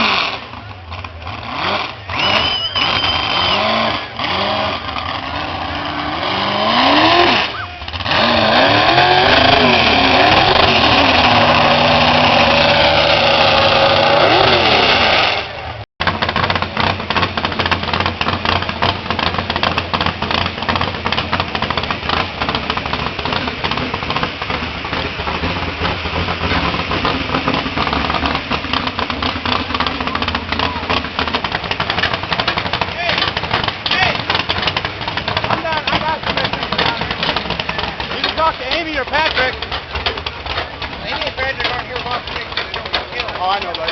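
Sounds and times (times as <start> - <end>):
crackling exhaust: 0.0 - 43.9
truck engine revving: 0.0 - 43.9.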